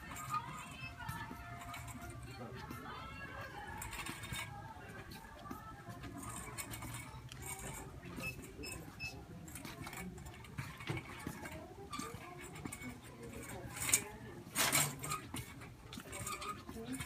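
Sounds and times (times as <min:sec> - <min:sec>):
faint background chatter: 0:00.0 - 0:17.0
shopping cart rattling: 0:00.0 - 0:17.0.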